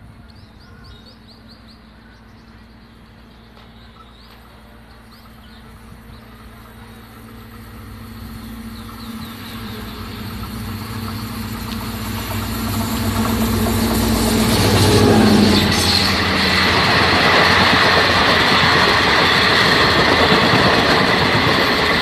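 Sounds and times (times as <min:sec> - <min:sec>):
diesel train engine hum: 0:00.0 - 0:22.0
rail noise: 0:00.0 - 0:22.0.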